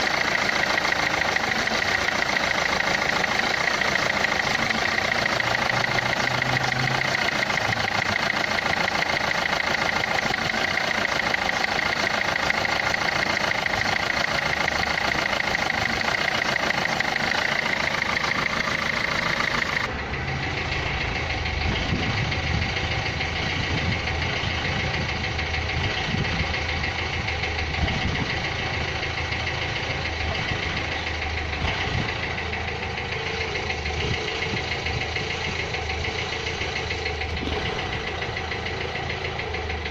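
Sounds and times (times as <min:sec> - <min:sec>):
diesel engine idling clatter: 0:00.0 - 0:39.9.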